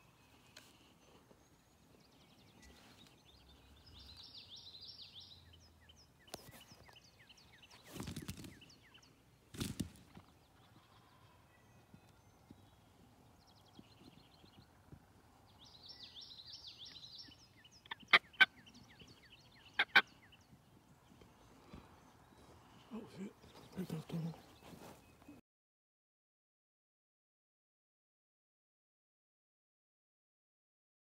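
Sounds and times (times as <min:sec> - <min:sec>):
songbird singing: 0:00.0 - 0:25.4.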